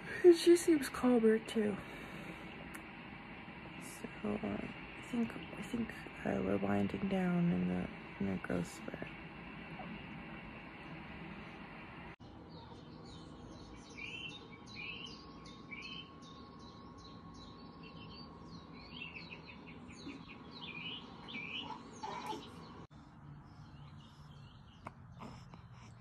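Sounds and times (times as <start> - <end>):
birds chirping: 0.0 - 26.0
faint room hum: 0.0 - 26.0.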